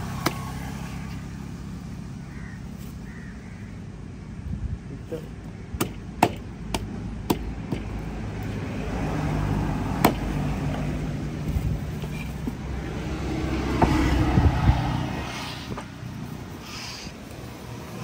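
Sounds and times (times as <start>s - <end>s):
vehicle engine passing: 0.0s - 4.0s, 7.0s - 18.0s.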